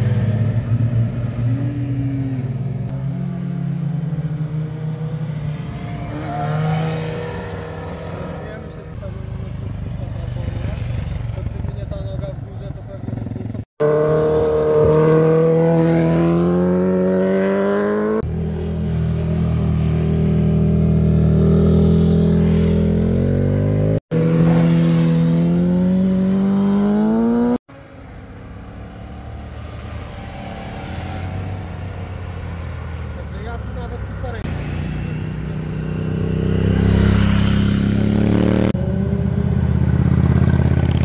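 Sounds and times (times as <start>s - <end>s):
motorcycles accelerating: 0.0s - 28.0s, 28.6s - 41.0s.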